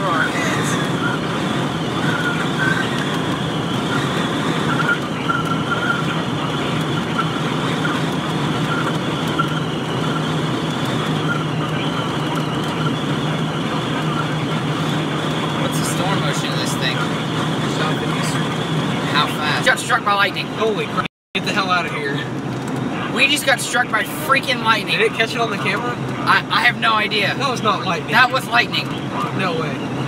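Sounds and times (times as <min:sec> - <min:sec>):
vehicle road and engine noise: 0:00.0 - 0:30.0.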